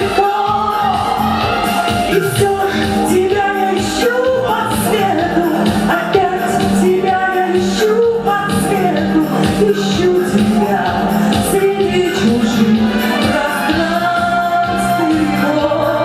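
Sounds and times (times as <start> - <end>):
instrumental accompaniment: 0.0 - 16.0
woman singing slow pop song: 0.0 - 16.0.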